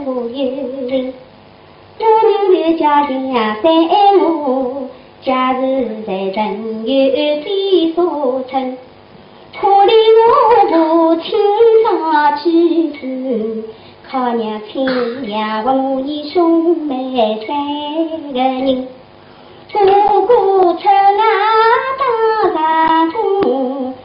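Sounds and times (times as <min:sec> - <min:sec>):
woman singing opera: 0:02.0 - 0:08.8, 0:09.6 - 0:18.9, 0:19.7 - 0:24.0.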